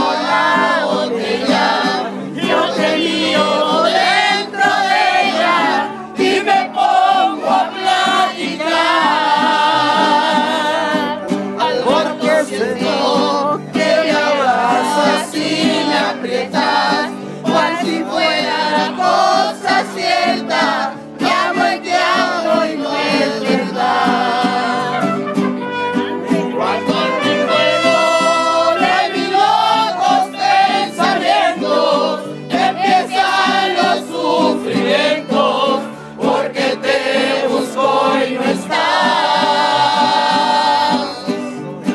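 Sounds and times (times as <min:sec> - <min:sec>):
group singing loudly: 0:00.0 - 0:25.2, 0:26.3 - 0:41.9
music: 0:00.0 - 0:41.9.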